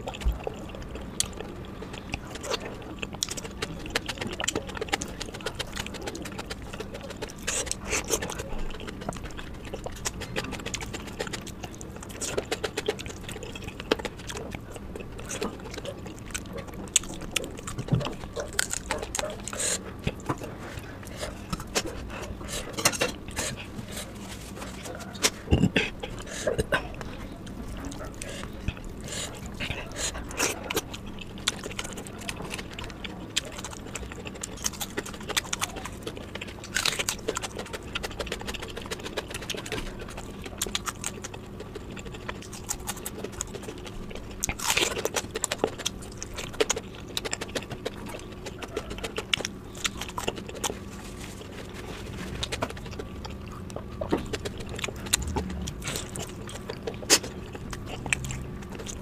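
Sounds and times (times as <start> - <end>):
faint steady hum: 0.0 - 59.0
wet chewing: 0.0 - 59.0.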